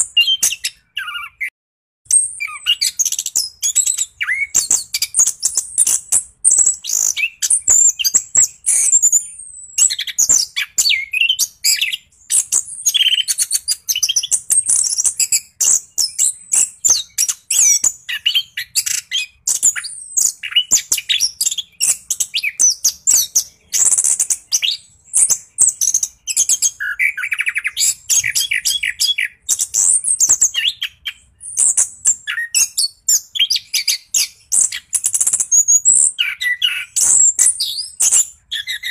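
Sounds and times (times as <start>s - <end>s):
thrush singing whistles and trills: 0.0s - 1.5s, 2.1s - 38.9s.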